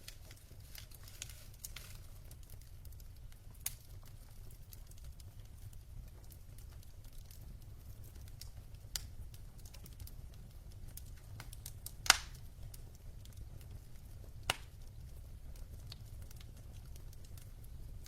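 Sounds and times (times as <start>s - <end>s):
logs crackling and popping in fireplace: 0.0s - 18.0s.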